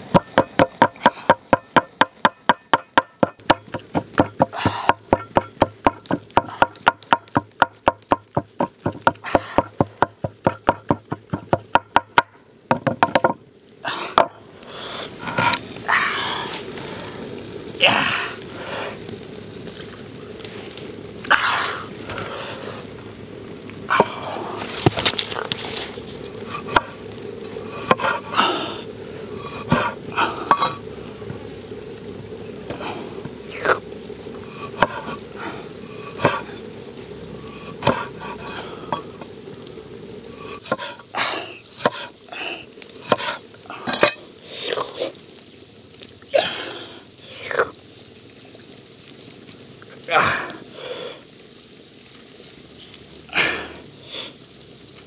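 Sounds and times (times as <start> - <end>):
insect trilling: 0.0 - 55.0.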